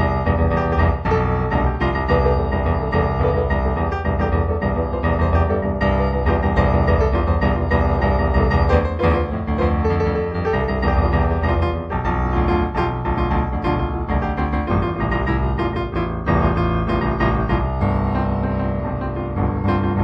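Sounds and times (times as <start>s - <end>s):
improvised piano music: 0.0s - 20.0s.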